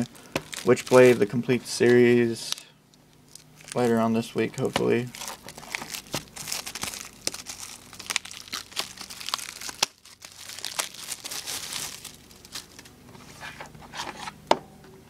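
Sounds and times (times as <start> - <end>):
plastic shrink wrap crinkling: 0.0 - 2.6, 3.2 - 12.9.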